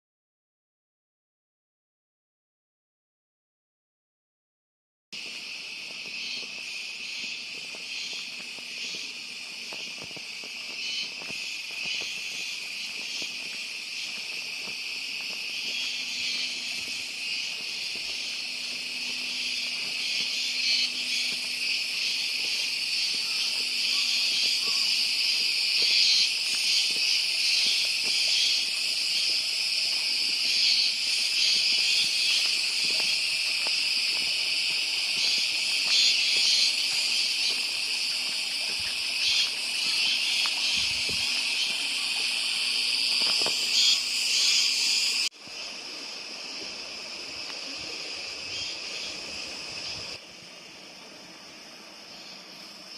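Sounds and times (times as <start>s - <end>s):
cicadas buzzing: 5.2s - 52.9s.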